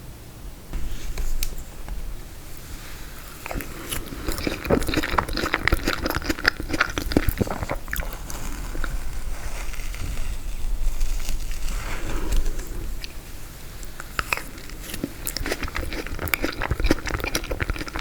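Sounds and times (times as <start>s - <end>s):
biting and chewing frozen dessert: 2.5s - 18.0s.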